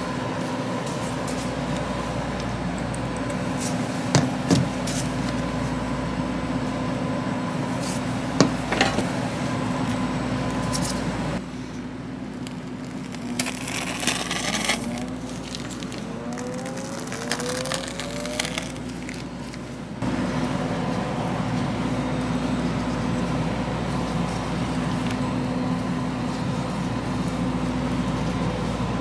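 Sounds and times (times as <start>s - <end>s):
kitchen equipment humming: 0.0s - 29.0s.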